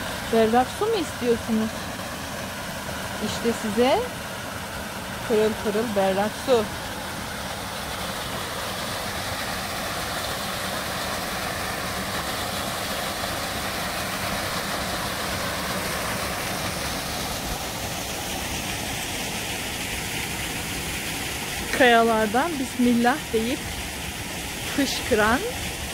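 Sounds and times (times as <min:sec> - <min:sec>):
waterfall pouring into pool: 0:00.0 - 0:25.9.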